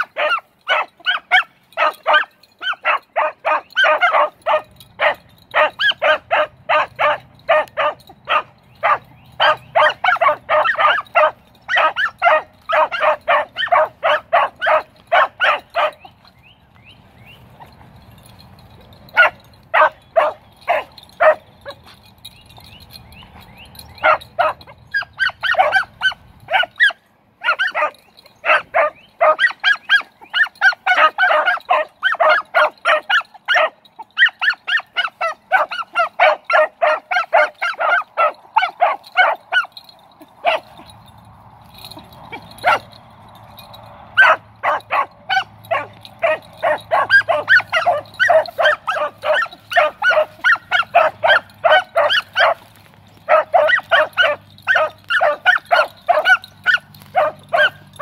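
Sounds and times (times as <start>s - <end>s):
dogs barking rapidly: 0.0s - 16.4s, 17.3s - 58.0s.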